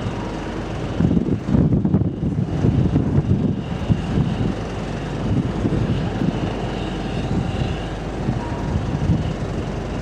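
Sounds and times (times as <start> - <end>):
faint distant engine hum: 0.0 - 10.0
wind buffeting microphone: 0.0 - 10.0.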